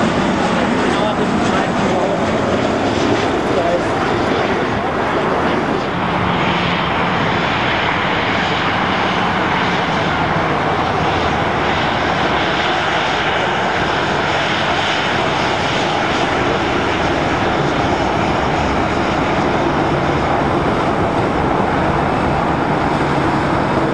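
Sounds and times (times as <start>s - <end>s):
jet engines running: 0.0s - 23.9s.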